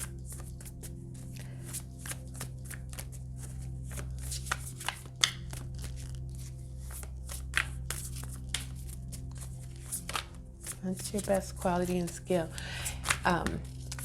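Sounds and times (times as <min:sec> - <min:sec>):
cards being shuffled: 0:00.0 - 0:14.0
steady low hum: 0:00.0 - 0:14.0.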